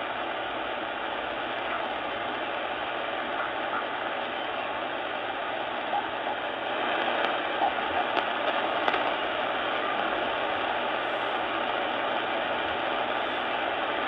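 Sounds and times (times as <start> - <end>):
radio band noise hiss: 0.0 - 14.0.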